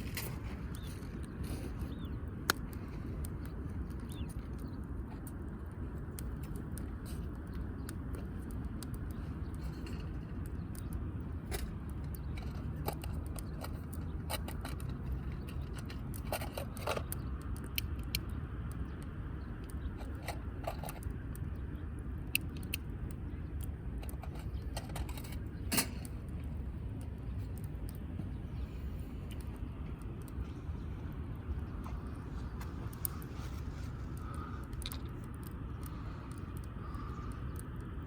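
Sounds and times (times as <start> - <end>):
steady low rumble: 0.0 - 38.0
wood fire crackling: 0.0 - 38.0.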